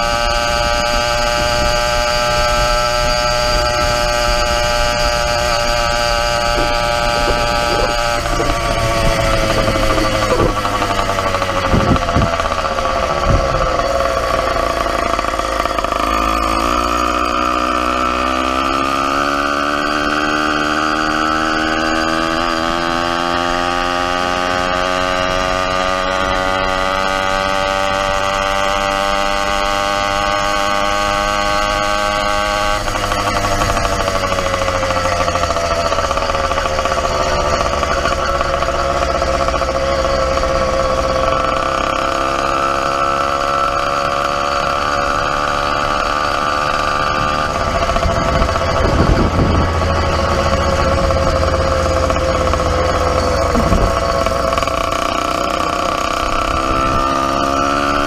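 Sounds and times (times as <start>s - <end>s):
two-stroke bicycle engine running: 0.0s - 58.0s.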